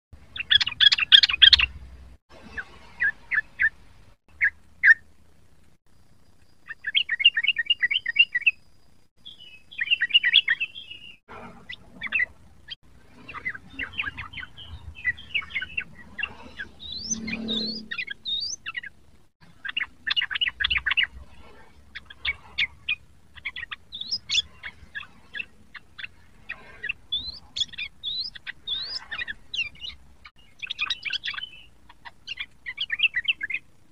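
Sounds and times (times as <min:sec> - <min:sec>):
bird singing bubbly chirps: 0:00.3 - 0:01.7, 0:06.6 - 0:08.6, 0:09.2 - 0:33.8.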